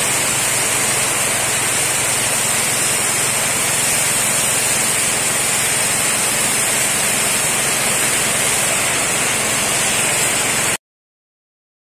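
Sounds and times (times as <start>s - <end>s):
pressure washer spraying water: 0.0s - 10.8s.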